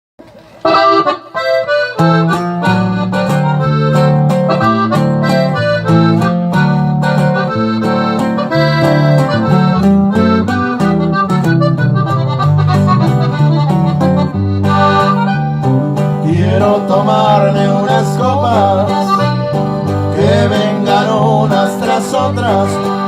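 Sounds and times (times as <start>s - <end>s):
accordion melody: 0.6s - 23.0s
rhythmic accompaniment: 0.6s - 23.0s.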